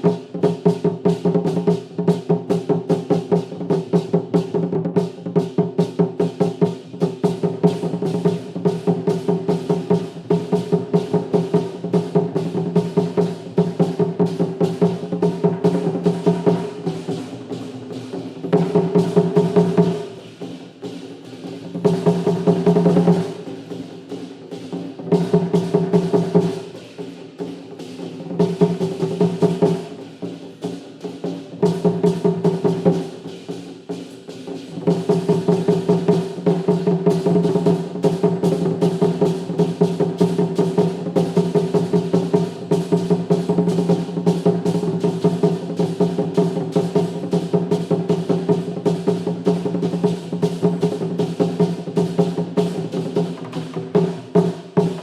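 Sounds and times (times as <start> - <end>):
percussion ensemble drumming: 0.0 - 55.0.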